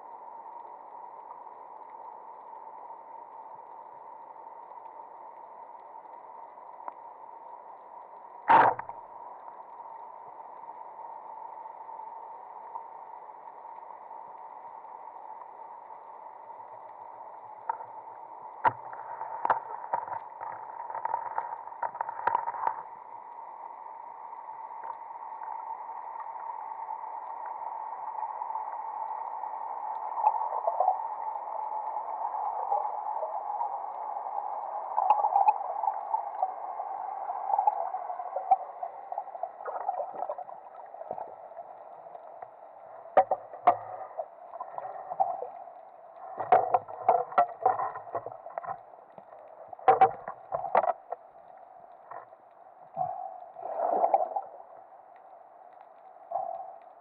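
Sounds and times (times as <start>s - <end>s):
faint hum: 0.0s - 57.0s.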